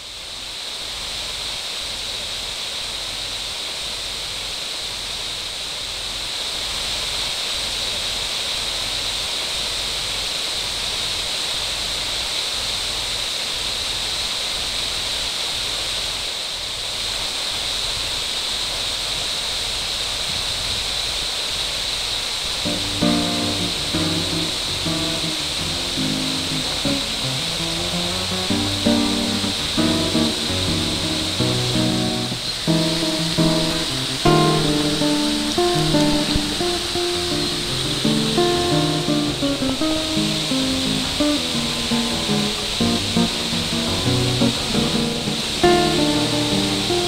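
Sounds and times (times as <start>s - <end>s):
water pouring over a dam: 0.2s - 47.0s.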